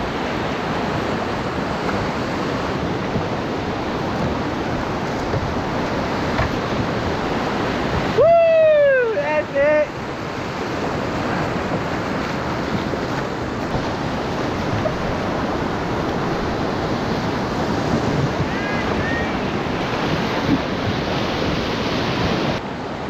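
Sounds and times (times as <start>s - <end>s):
whitewater rapids rushing: 0.0s - 23.0s
wind buffeting microphone: 0.0s - 23.0s.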